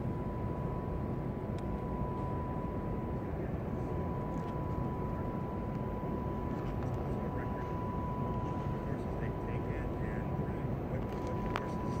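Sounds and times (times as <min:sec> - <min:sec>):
constant high tone: 0:00.0 - 0:12.0
low outdoor rumble: 0:00.0 - 0:12.0.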